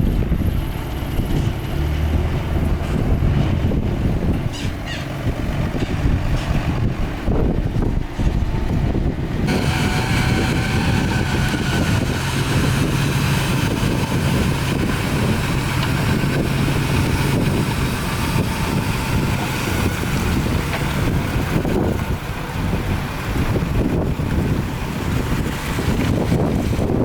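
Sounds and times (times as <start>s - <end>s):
diesel engine of heavy machinery: 0.0s - 27.0s
engine hum with higher whine: 0.0s - 27.0s
wind buffeting microphone: 0.0s - 27.0s.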